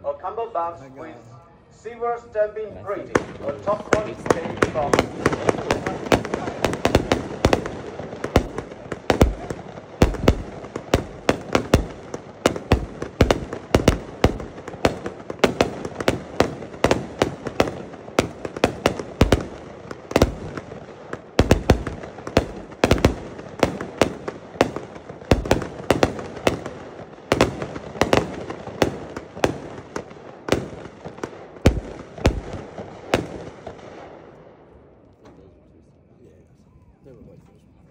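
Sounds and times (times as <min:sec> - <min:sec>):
steady haze of noise: 0:00.0 - 0:37.9
firework bangs: 0:03.0 - 0:34.4.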